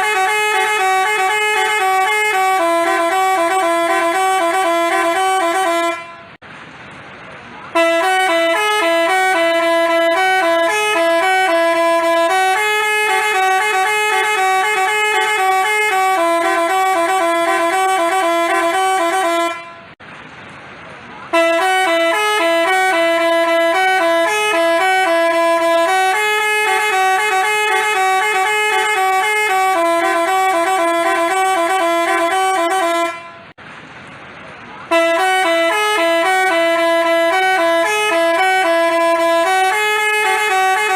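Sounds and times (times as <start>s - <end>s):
bus horn playing a tune: 0.0s - 6.4s, 7.7s - 20.0s, 21.3s - 33.6s, 34.9s - 40.9s.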